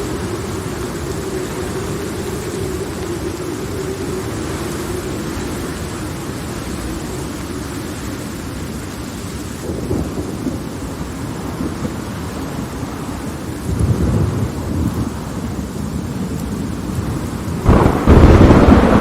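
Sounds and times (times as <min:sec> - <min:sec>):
heavy rain: 0:00.0 - 0:19.0
thunder rumbling: 0:00.0 - 0:19.0.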